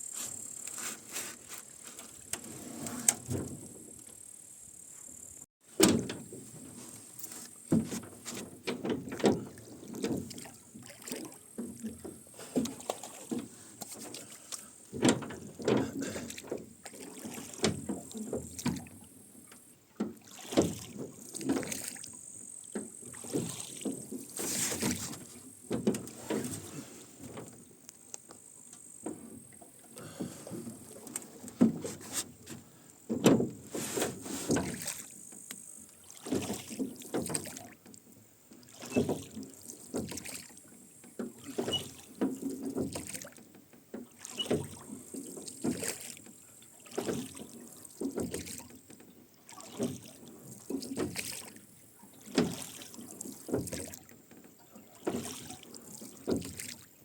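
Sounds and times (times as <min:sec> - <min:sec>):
oars splashing: 0:00.0 - 0:04.3, 0:04.9 - 0:57.0
oarlocks creaking and knocking: 0:05.8 - 0:21.8, 0:22.4 - 0:38.0, 0:41.0 - 0:56.6.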